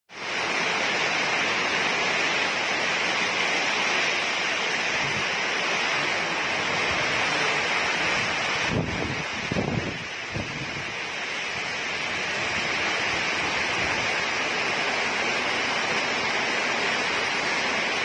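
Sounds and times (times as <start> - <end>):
heavy rain falling: 0.1 - 18.0.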